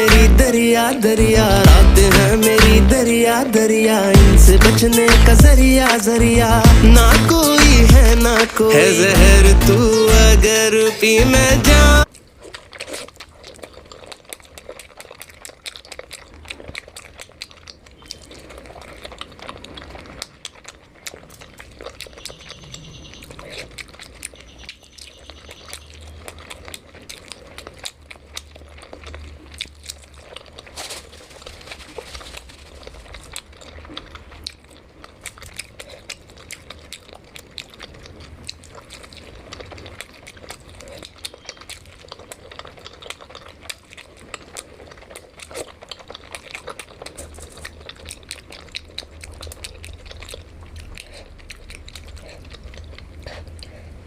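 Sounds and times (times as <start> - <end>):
chewing and biting: 0.0 - 54.0.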